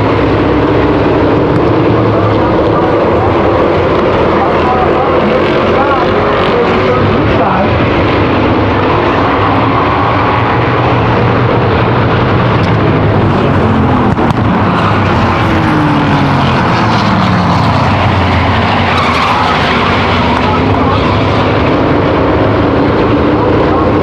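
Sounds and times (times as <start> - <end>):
racing engines roaring: 0.0 - 24.0.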